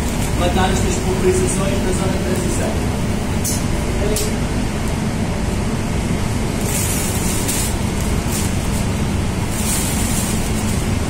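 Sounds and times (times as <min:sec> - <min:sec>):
spray booth air flow rushing: 0:00.0 - 0:04.4, 0:06.0 - 0:11.0.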